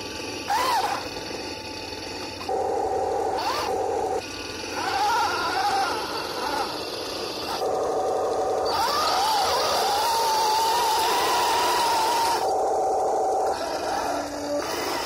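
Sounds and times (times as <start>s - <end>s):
toy tank motors whining: 0.0s - 15.0s.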